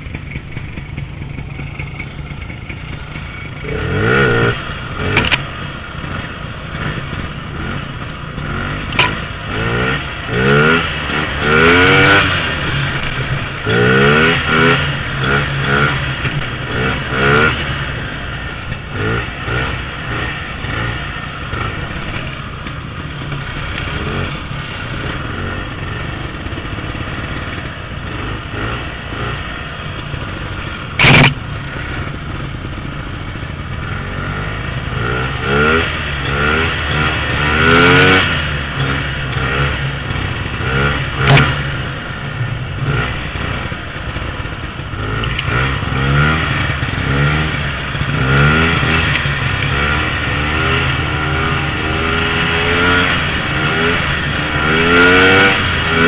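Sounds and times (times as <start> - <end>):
snowmobile engine revving: 2.9 - 32.8, 33.7 - 56.0.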